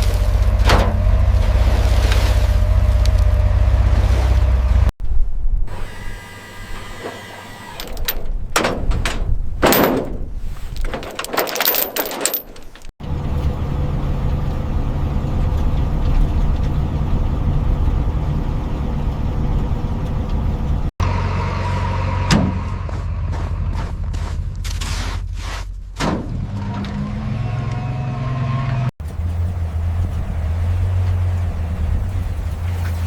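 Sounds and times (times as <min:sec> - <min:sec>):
engine humming: 0:00.0 - 0:24.7, 0:26.4 - 0:33.0.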